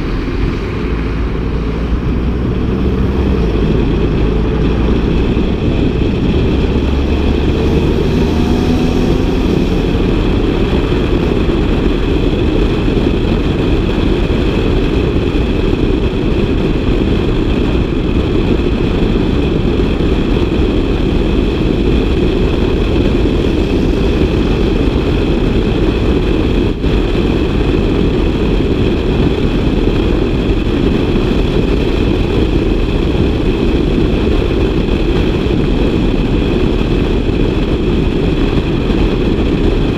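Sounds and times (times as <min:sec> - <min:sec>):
car engine and exhaust drone: 0:00.0 - 0:39.9.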